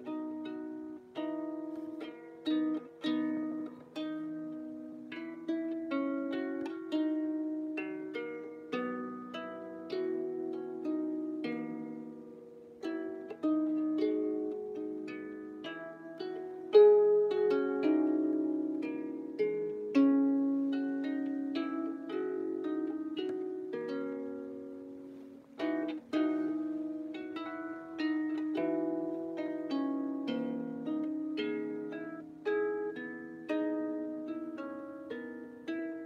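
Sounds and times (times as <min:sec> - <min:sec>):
out-of-tune harp plucked: 0:00.0 - 0:36.0.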